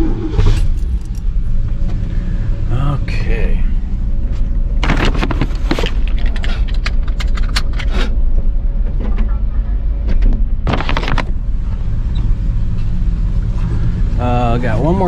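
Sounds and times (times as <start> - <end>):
pickup engine rumbling: 0.0 - 15.0.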